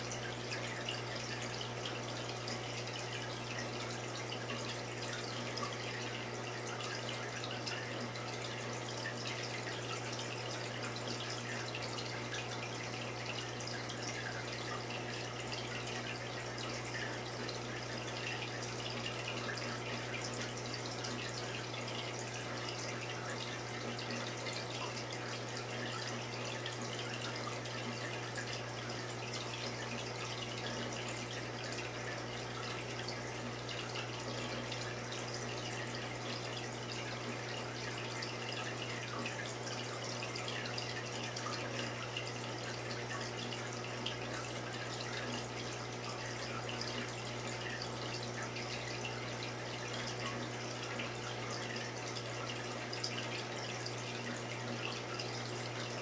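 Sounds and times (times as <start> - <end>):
aquarium water trickling and splashing: 0.0 - 56.0
pump low hum: 0.0 - 56.0.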